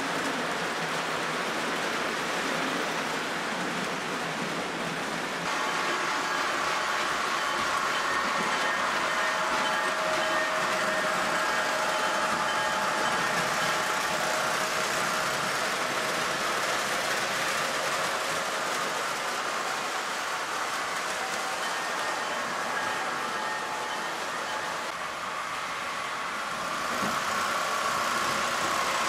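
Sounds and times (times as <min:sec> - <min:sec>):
model train wheels on rails: 0:00.0 - 0:29.0.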